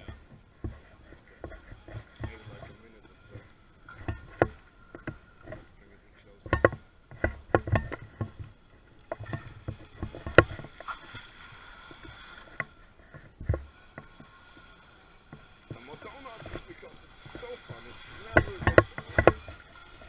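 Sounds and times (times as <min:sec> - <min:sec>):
sharp clicks and thumps: 0:00.0 - 0:11.3, 0:11.9 - 0:14.3, 0:15.3 - 0:20.0
electric boat motor whine: 0:00.0 - 0:20.0.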